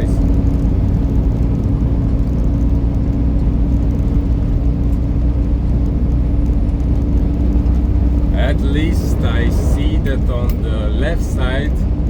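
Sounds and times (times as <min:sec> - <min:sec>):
constant low hum: 0:00.0 - 0:12.0
road noise: 0:00.0 - 0:12.0
truck engine droning: 0:00.0 - 0:12.0.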